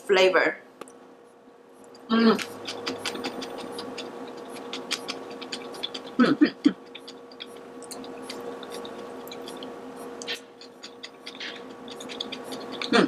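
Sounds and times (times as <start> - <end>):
faint steady hum: 0.0 - 13.0
crunchy chewing: 1.8 - 13.0.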